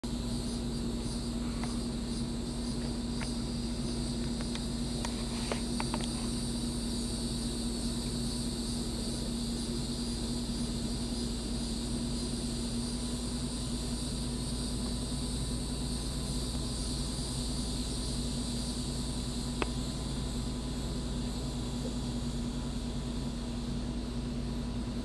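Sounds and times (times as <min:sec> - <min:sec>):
constant low hum: 0:00.0 - 0:25.0
high insect drone: 0:00.0 - 0:25.0.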